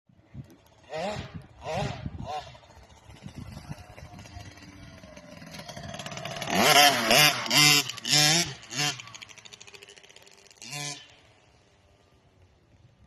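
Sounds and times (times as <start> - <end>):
dirt bike engine revving: 0.8 - 11.4.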